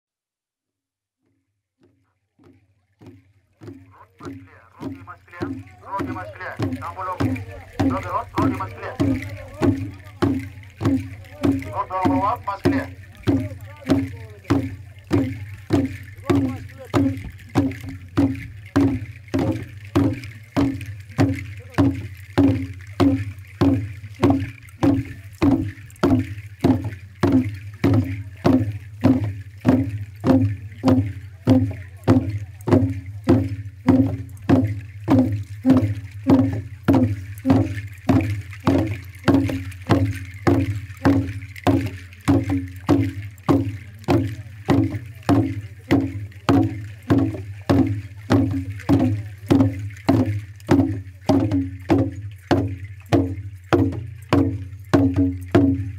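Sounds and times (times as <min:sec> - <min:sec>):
hand drums beating in rhythm: 0:02.4 - 0:55.9.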